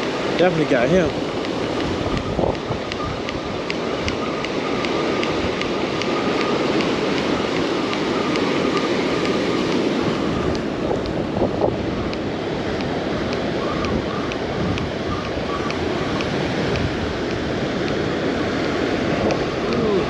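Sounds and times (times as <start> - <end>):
ocean surf breaking: 0.0 - 20.0
wind on microphone: 0.0 - 20.0.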